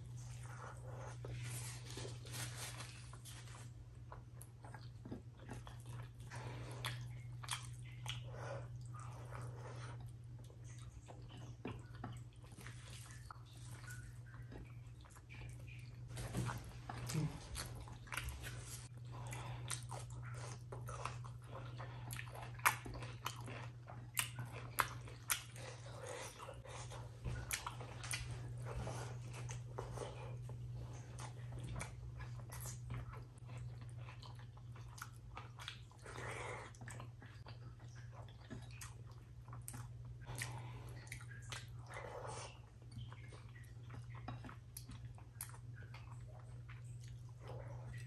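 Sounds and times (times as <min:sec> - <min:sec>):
steady low hum: 0:00.0 - 0:48.0
wet chewing and mouth clicks: 0:00.1 - 0:48.0.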